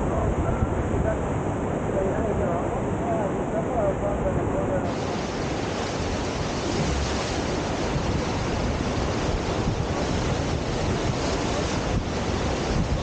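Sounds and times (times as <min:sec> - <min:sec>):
rushing whitewater: 0:00.0 - 0:13.0.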